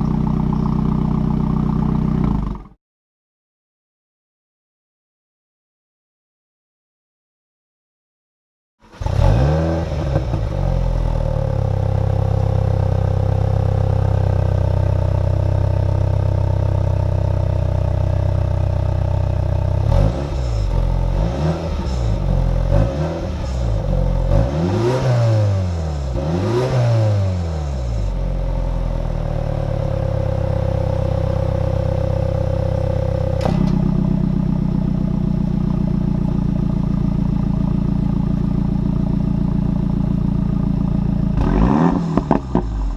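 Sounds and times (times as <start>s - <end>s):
car engine idling and revving: 0.0s - 2.8s, 8.8s - 42.9s.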